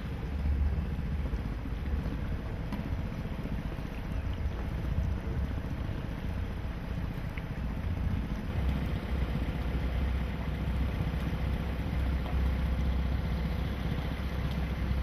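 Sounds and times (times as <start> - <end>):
faint steady hum: 0.0 - 15.0
motorboat engine running: 0.0 - 15.0.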